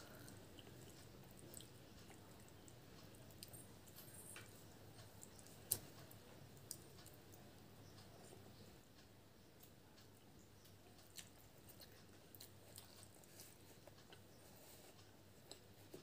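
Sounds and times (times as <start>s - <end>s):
soft chewing and wet squishing: 0.0s - 16.0s.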